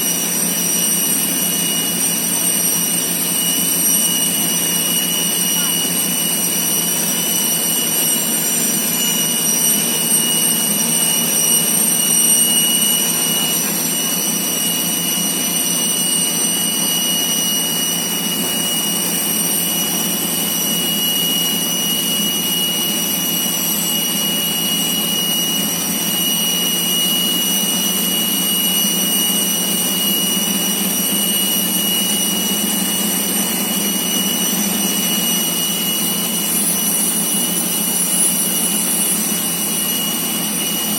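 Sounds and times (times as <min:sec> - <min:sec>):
jet turbine running: 0:00.0 - 0:40.9.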